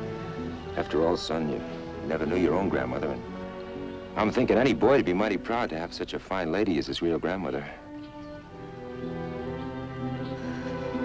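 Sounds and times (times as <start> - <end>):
orchestral music with strings: 0.0 - 11.0.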